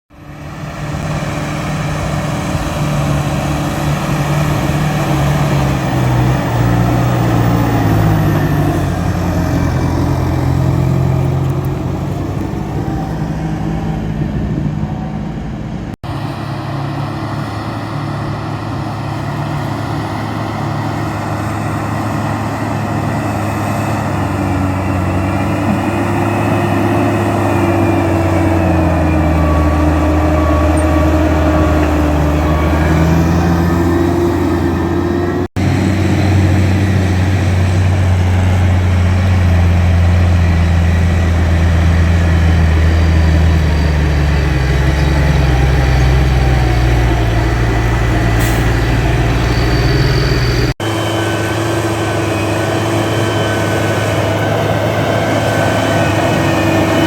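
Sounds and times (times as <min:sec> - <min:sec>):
tractor engine droning: 0:00.1 - 0:57.0.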